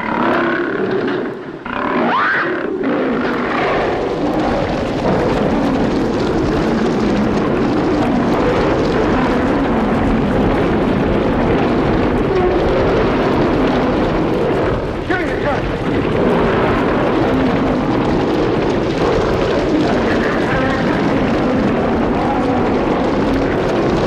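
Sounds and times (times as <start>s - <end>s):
lions roaring: 0.0s - 24.0s.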